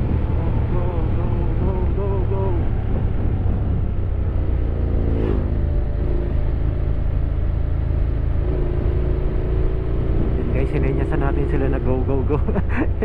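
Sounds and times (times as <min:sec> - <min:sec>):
motorcycle engine rumbling: 0:00.0 - 0:13.0
road and wind noise: 0:00.0 - 0:13.0.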